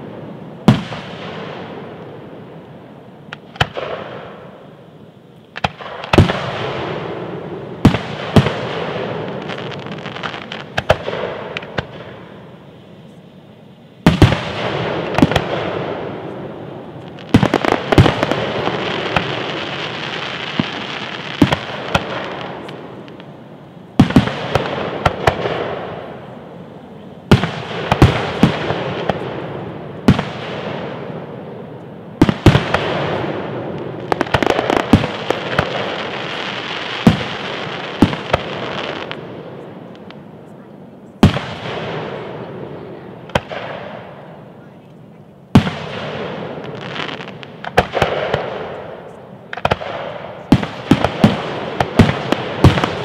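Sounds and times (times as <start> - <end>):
firework bangs: 0.0 - 53.0
firework crackling: 0.0 - 53.0.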